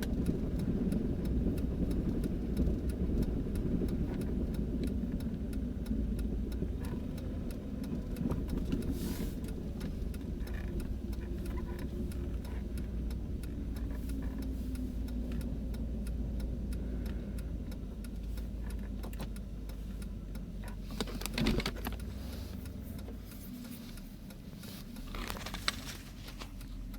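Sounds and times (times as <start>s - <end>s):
car engine and road rumble: 0.0s - 26.9s.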